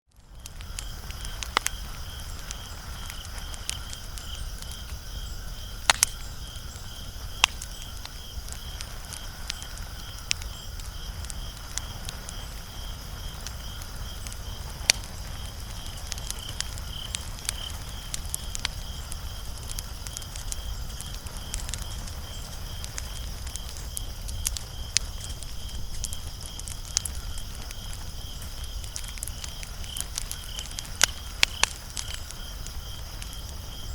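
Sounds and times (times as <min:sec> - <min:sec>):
low rumble of flames: 0:00.1 - 0:33.9
wood fire crackling and popping: 0:00.1 - 0:33.9.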